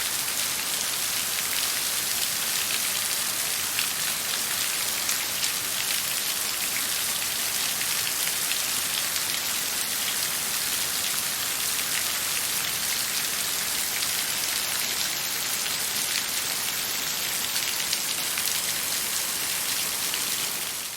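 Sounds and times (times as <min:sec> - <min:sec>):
rain pattering: 0:00.3 - 0:20.9.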